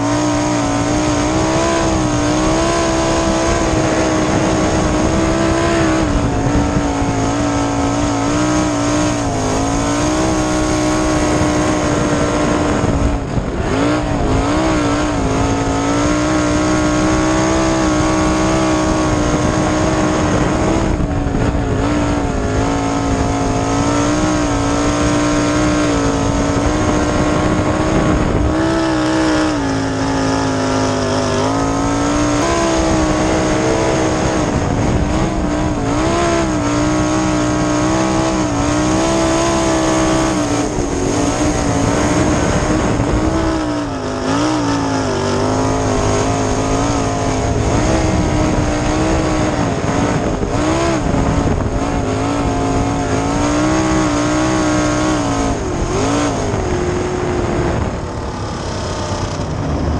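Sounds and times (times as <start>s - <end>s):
race car engine at high revs: 0.0s - 59.9s.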